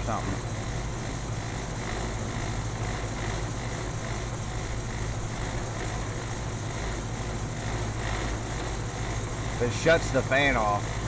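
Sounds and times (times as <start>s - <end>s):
air conditioner fan running: 0.0s - 11.0s.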